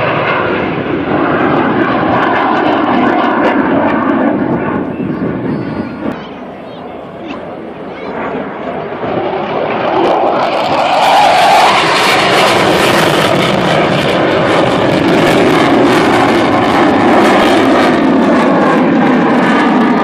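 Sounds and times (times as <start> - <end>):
jet engines flying past: 0.0 - 20.0.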